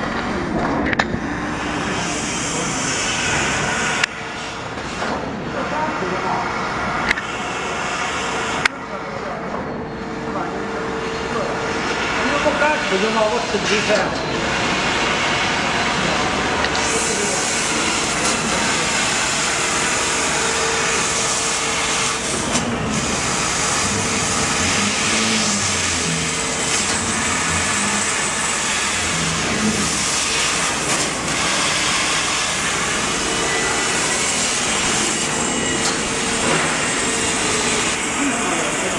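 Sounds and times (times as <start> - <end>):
faint machine hum: 0.0 - 38.9
laser cutter hissing: 1.3 - 9.1, 10.8 - 38.9.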